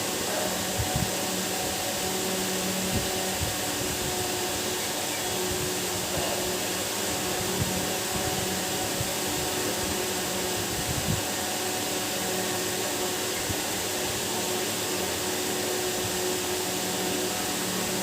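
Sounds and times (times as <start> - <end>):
whirring hiss with electrical hum: 0.0 - 18.0.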